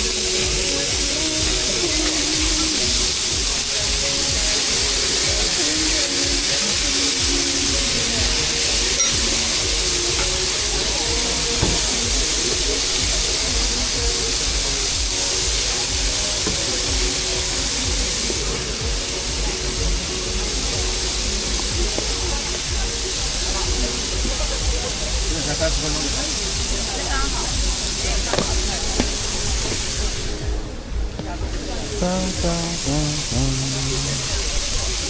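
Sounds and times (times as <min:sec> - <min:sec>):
background music melody: 0:00.0 - 0:35.0
steady hiss: 0:00.0 - 0:35.0.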